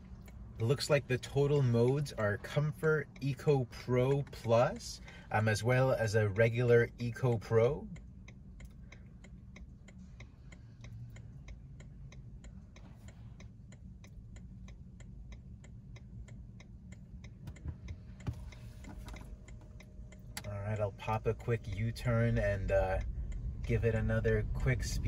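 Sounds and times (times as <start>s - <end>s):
low background rumble: 0.0s - 25.0s
turn signal ticking: 0.0s - 25.0s.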